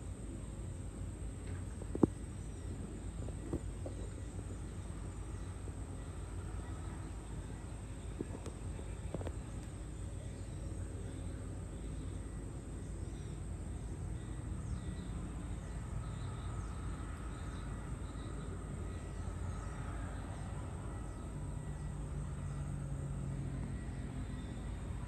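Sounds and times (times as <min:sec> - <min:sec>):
insect calls: 0:00.0 - 0:25.0.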